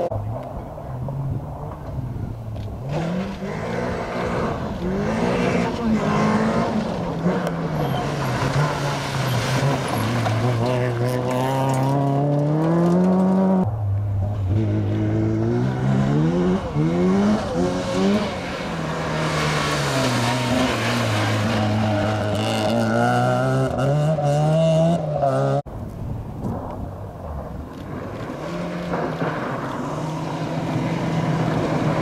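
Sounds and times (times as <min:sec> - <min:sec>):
rally car engine revving: 0:00.0 - 0:25.6, 0:28.0 - 0:32.0.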